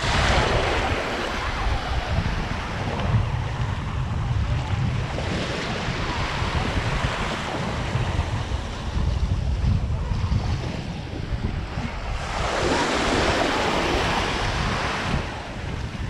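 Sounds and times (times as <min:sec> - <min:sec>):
shallow ocean surf washing: 0:00.0 - 0:16.0
wind buffeting microphone: 0:00.0 - 0:16.0.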